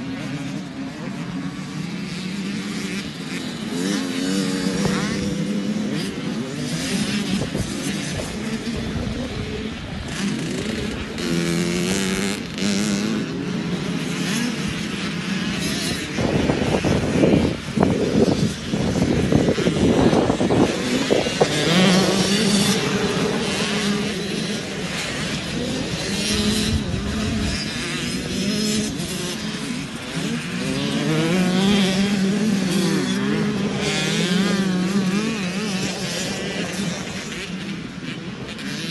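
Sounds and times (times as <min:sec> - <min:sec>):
motorbike engines revving: 0:00.0 - 0:38.9.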